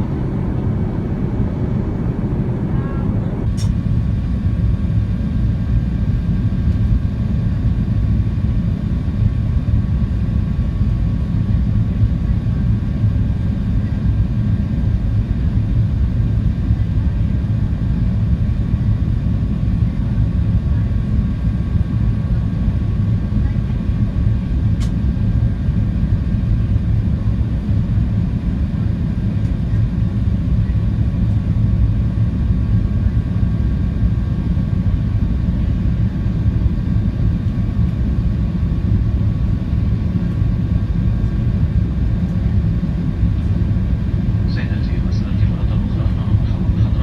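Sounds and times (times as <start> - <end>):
aircraft cabin rumble: 0.0 - 47.0
faint steady hum: 0.0 - 47.0.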